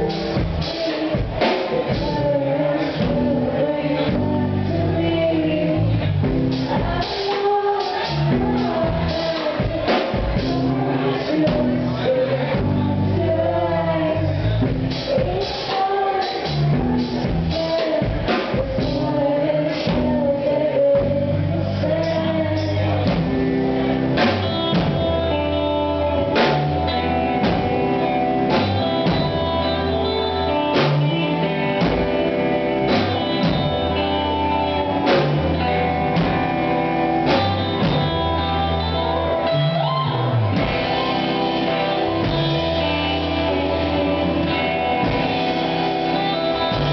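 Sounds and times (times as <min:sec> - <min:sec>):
person singing: 0:00.0 - 0:46.9
rock band playing live: 0:00.0 - 0:46.9.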